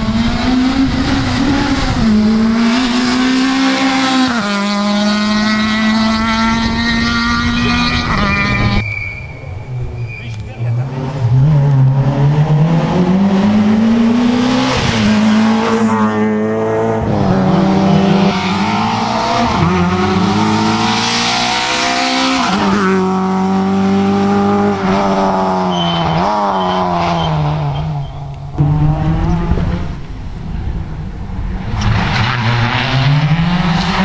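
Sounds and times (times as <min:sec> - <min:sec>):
rally car engines at full throttle: 0:00.0 - 0:34.0.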